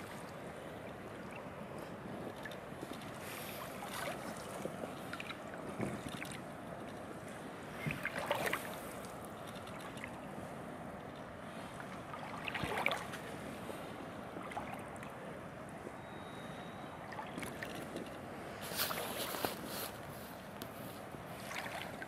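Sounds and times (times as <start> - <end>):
footsteps wading through shallow water: 0.0 - 6.9, 7.8 - 10.2, 11.1 - 15.2, 17.0 - 22.0.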